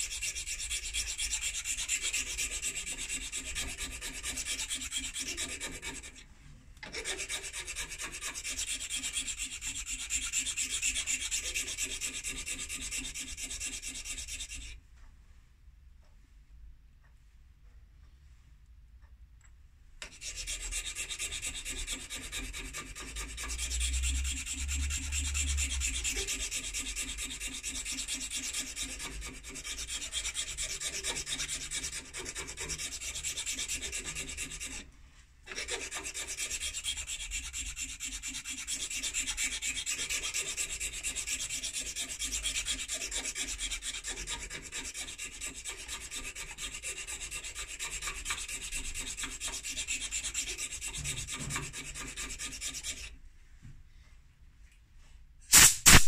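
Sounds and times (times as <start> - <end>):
hand file rasping: 0.0 - 6.2, 6.8 - 14.8, 20.0 - 53.2.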